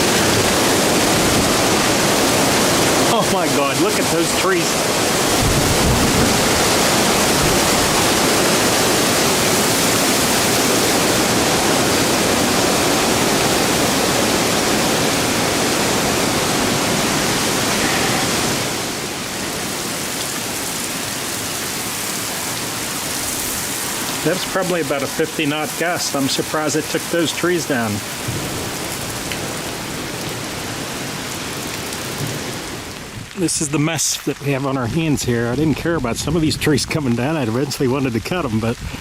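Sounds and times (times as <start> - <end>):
strong wind rushing through trees: 0.0 - 39.0.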